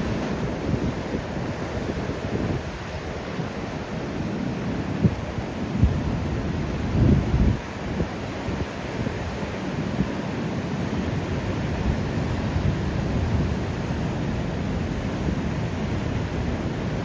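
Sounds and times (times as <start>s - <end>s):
ocean surf washing on beach: 0.0s - 17.0s.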